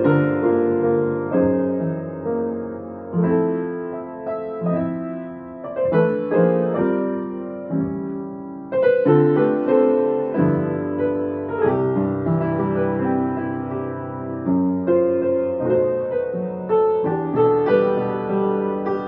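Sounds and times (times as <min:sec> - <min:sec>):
slow gentle piano: 0:00.0 - 0:19.0.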